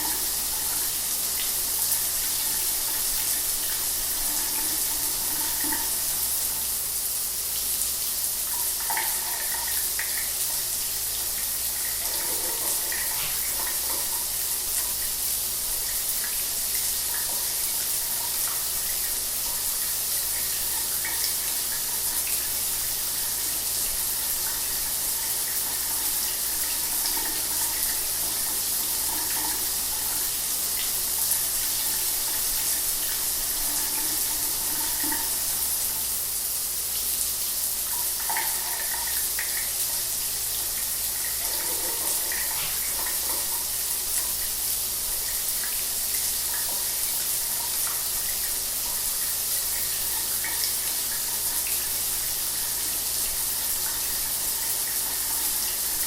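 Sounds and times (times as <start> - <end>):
shower water running: 0.0 - 56.0.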